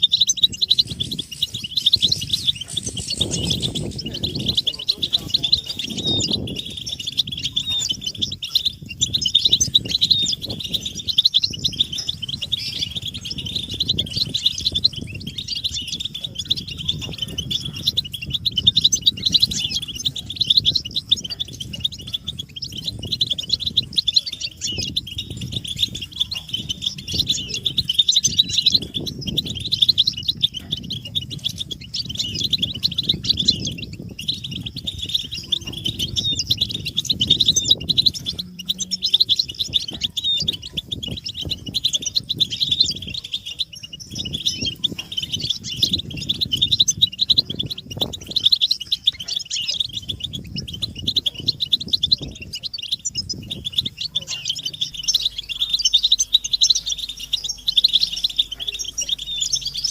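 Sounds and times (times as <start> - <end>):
goldfinches twittering: 0.0 - 59.9.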